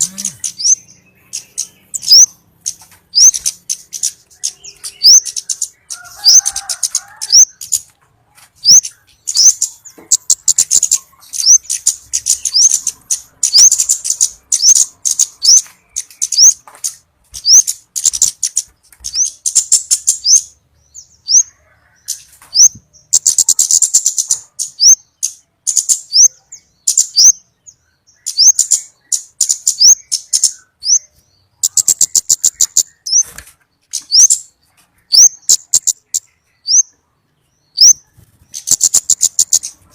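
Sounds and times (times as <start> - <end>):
high rising bird calls: 0.0 - 7.9, 8.6 - 39.9.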